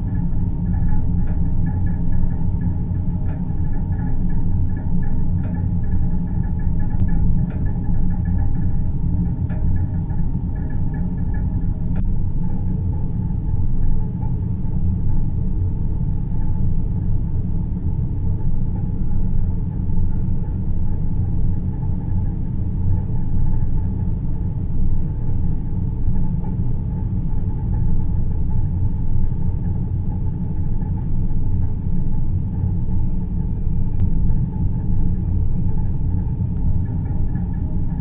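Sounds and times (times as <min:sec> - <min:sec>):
deep synthesized rumbling: 0:00.0 - 0:38.0.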